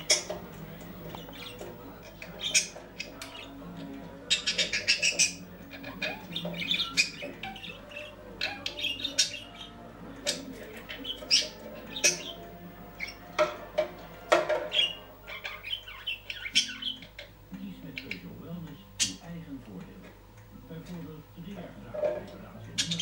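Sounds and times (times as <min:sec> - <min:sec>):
budgerigar chirping: 0:00.0 - 0:13.4, 0:14.3 - 0:19.2, 0:22.7 - 0:23.0.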